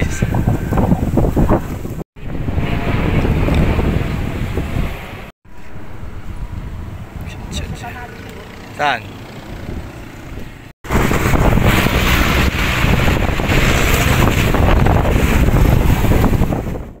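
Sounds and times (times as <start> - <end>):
wind buffeting microphone: 0.0 - 8.8, 9.4 - 17.0.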